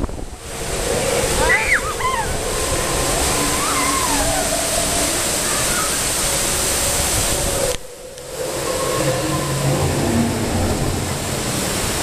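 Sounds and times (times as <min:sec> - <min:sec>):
rushing churning water: 0:00.0 - 0:12.0.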